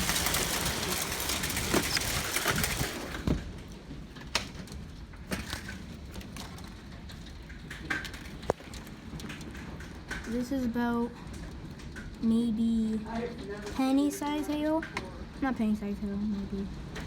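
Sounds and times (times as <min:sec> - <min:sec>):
hail and rain pelting down: 0:00.0 - 0:17.0.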